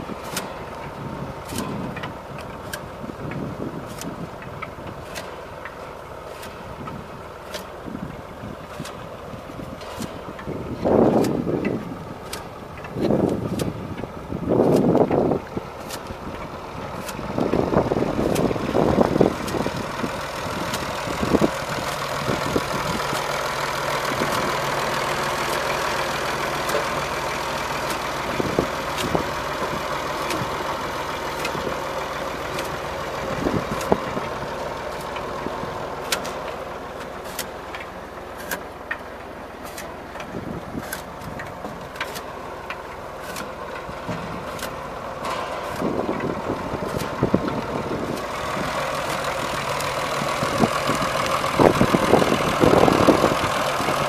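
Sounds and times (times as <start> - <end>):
tractor engine running: 0.0 - 54.0
sharp clicks and knocks: 0.2 - 54.0.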